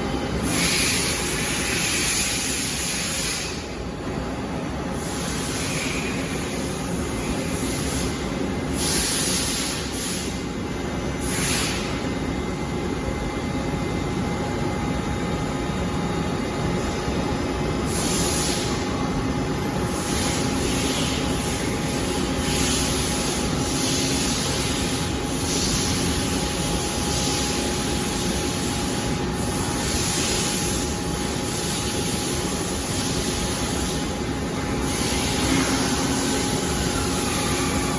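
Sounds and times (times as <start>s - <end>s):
machine hum with faint whine: 0.0s - 37.9s.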